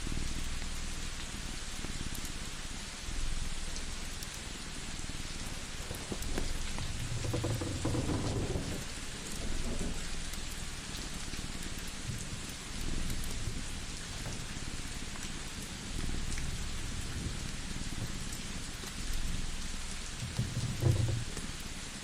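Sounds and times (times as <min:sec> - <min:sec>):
rain hissing on a surface: 0:00.0 - 0:22.0
small crackles: 0:03.3 - 0:22.0.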